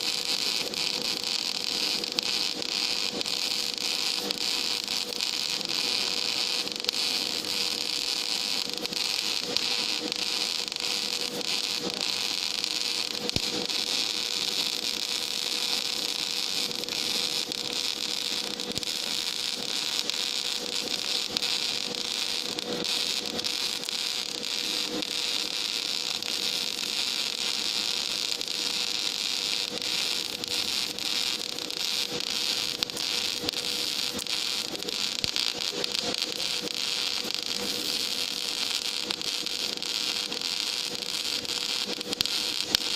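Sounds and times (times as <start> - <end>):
welding arc crackling hiss: 0.0 - 42.9.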